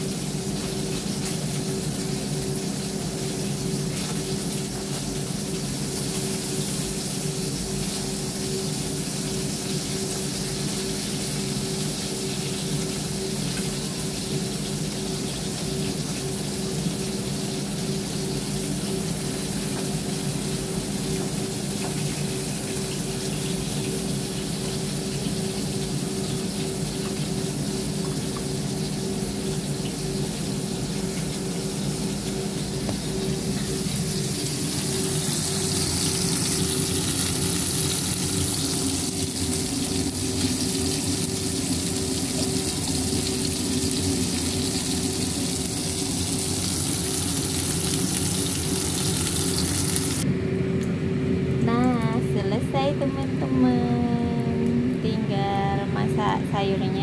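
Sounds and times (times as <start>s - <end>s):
range hood fan whooshing: 0.0s - 57.0s.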